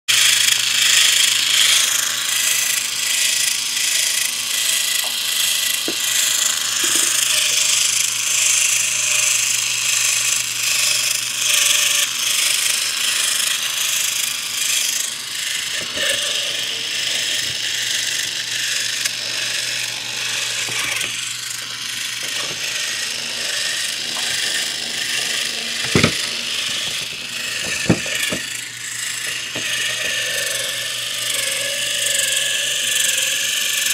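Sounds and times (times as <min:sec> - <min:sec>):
toy train motor whirring: 0:00.1 - 0:33.9.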